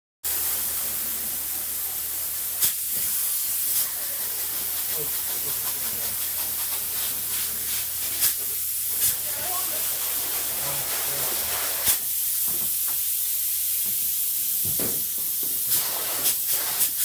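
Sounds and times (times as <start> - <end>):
spray foam gun hissing: 0.3 - 17.0.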